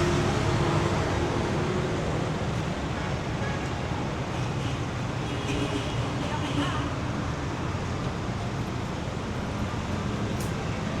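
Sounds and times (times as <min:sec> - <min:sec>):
street traffic rumble: 0:00.0 - 0:05.2, 0:05.9 - 0:11.0.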